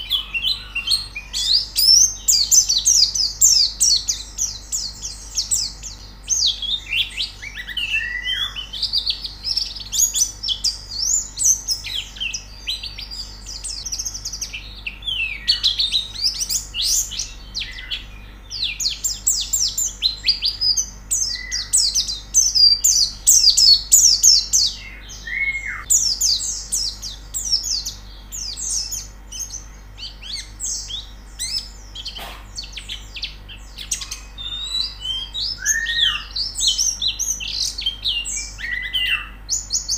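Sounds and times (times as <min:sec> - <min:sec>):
birds chattering trills: 0:00.0 - 0:39.9.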